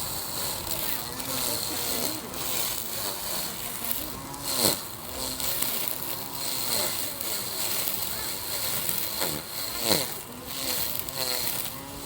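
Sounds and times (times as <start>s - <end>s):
lawn mower motor running: 0.0s - 12.0s
steady high whine: 0.0s - 12.0s.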